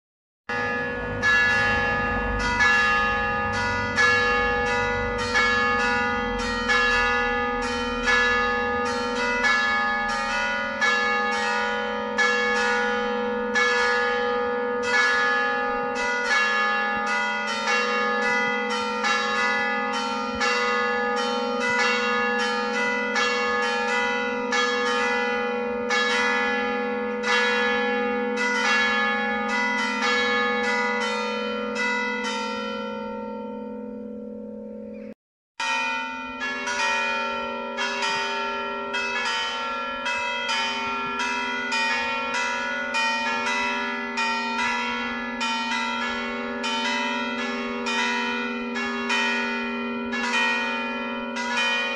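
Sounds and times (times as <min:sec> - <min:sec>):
church bells hammered in a peal: 0:00.5 - 0:51.9.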